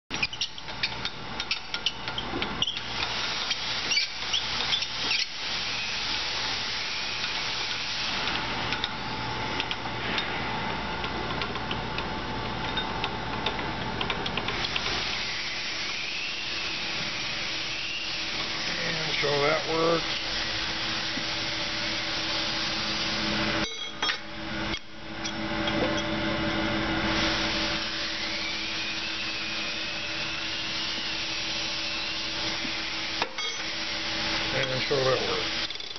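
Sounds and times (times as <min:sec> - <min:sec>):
grinder running with low hum: 0:00.1 - 0:35.9.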